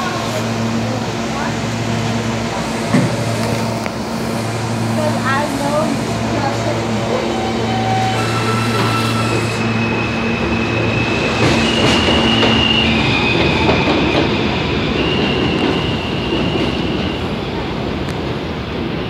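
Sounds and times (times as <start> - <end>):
train wheel rumble: 0.0 - 19.0.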